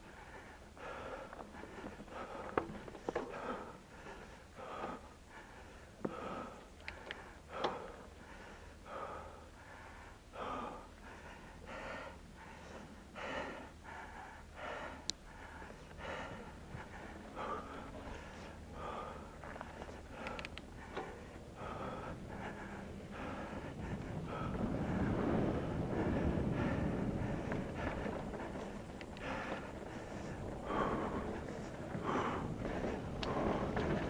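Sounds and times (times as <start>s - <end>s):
bike clicking: 0.0s - 34.0s
person breathing hard: 0.0s - 34.0s.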